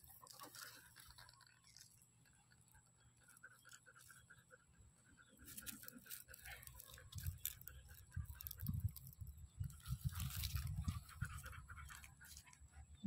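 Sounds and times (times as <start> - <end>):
dog gnawing on stick: 0.0 - 4.4, 5.3 - 12.7.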